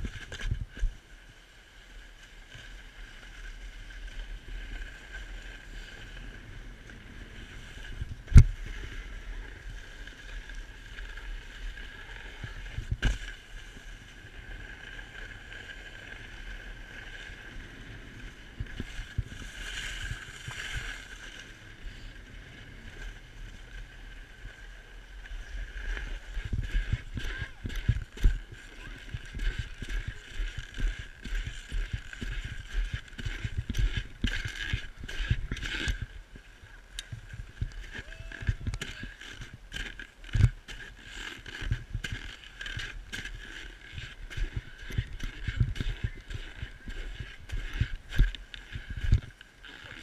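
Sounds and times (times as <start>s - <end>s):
snowboard scraping over snow: 0.0s - 50.0s.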